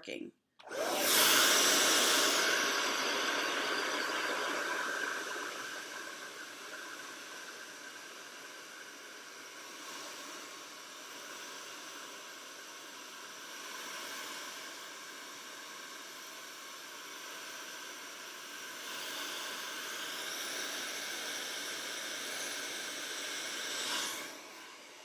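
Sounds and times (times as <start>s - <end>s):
hair dryer blowing air: 0.6s - 16.1s, 17.6s - 25.0s.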